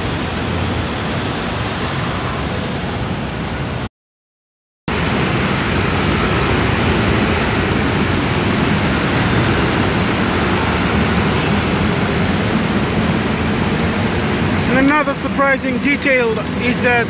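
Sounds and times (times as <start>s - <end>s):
motorbike and scooter traffic: 0.0s - 3.9s, 4.9s - 17.0s.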